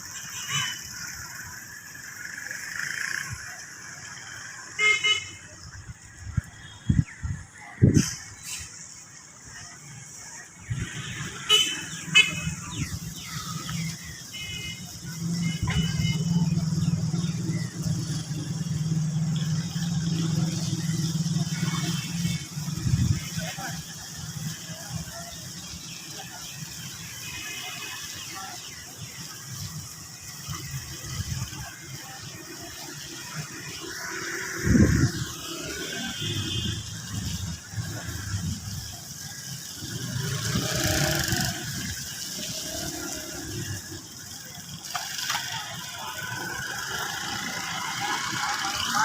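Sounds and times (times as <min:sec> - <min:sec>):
steady high hiss: 0:00.0 - 0:49.0
vehicle engine humming: 0:00.0 - 0:49.0.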